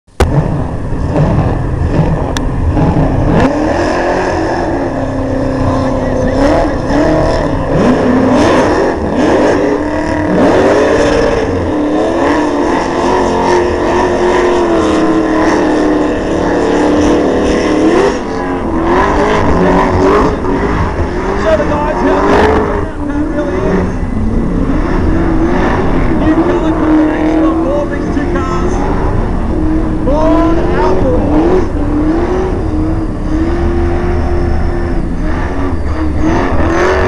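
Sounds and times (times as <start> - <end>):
car engines revving: 0.0 - 37.0
low rumble of engines: 0.0 - 37.0.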